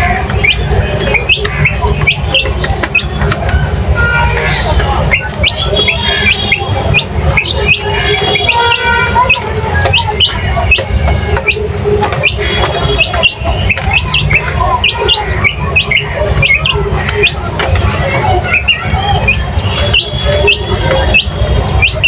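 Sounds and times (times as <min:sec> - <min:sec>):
small birds chirping and squawking: 0:00.0 - 0:22.0.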